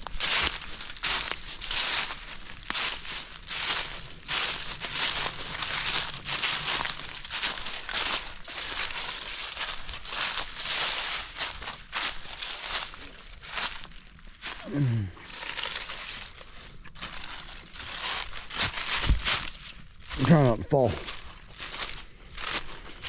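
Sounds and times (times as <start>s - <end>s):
footsteps crunching dry leaves: 0.0s - 23.0s.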